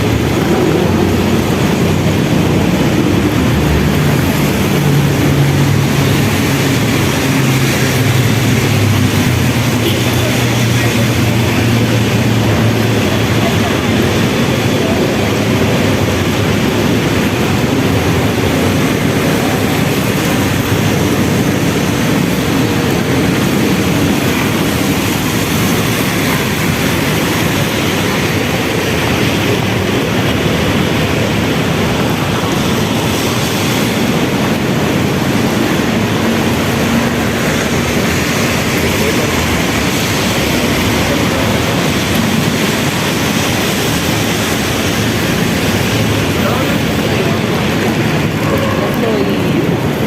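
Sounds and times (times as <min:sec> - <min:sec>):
rain: 0:00.0 - 0:50.0
traffic on wet roads: 0:00.0 - 0:50.0.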